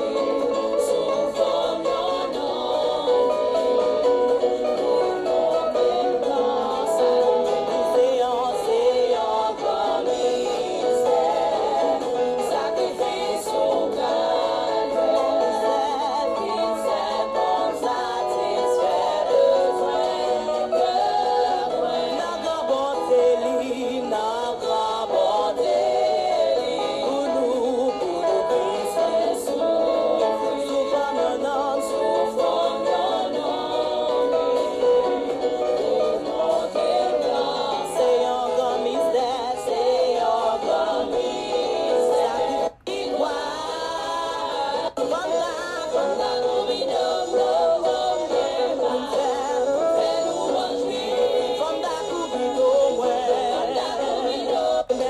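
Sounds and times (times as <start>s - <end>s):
choir singing gospel music: 0.0s - 55.0s.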